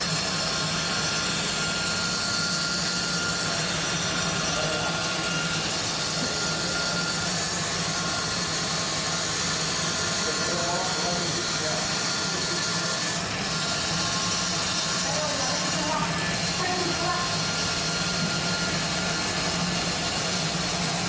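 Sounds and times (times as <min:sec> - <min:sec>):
cutting machine humming: 0:00.0 - 0:21.0.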